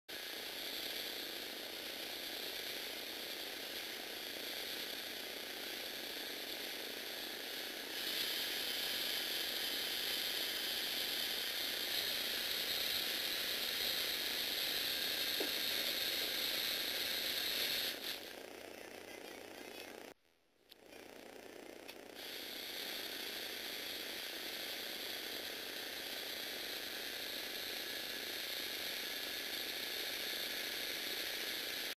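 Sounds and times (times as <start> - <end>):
motors whirring with gear chatter: 0.1 - 31.9.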